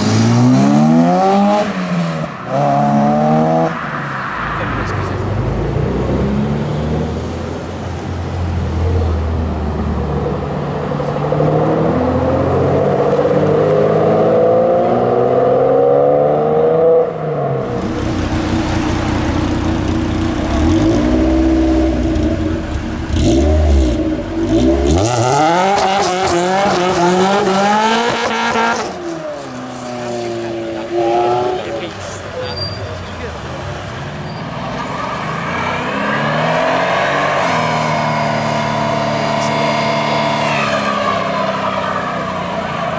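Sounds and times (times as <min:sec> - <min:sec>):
car engines revving: 0:00.0 - 0:42.9.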